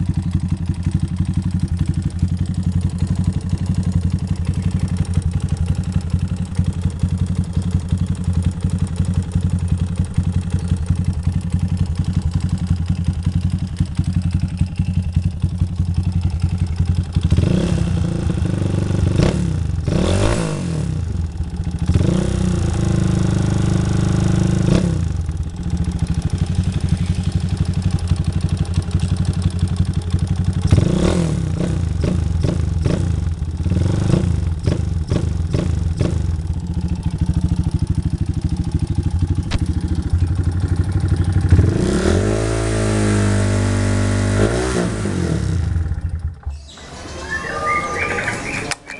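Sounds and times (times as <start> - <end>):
motorcycle engine idling and revving: 0.0 - 48.6.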